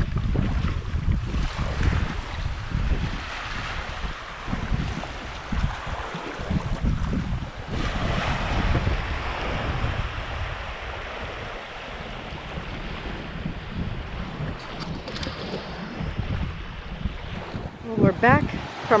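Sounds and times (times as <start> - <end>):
surf washing on a beach: 0.0 - 19.0
wind gusting on microphone: 0.0 - 19.0.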